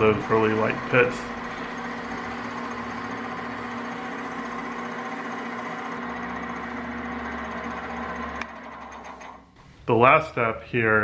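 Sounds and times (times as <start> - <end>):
metal lathe running: 0.0 - 9.4.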